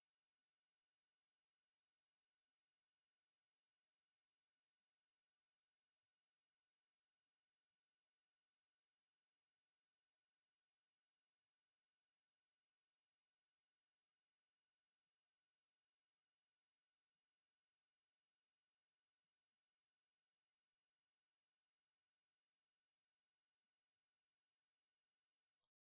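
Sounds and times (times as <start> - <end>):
high-pitched sine tone: 0.0 - 25.7.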